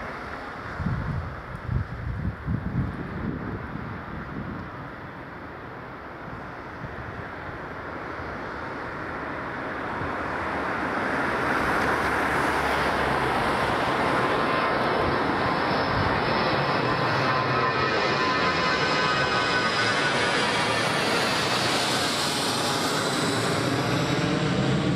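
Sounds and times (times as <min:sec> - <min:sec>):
jet engine roar: 0:00.0 - 0:24.9
high engine whine: 0:04.4 - 0:24.9.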